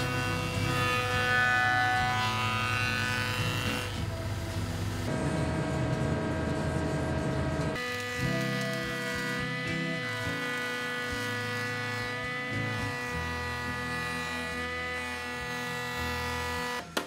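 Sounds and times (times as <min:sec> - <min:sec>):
background music with held tones: 0:00.0 - 0:17.0.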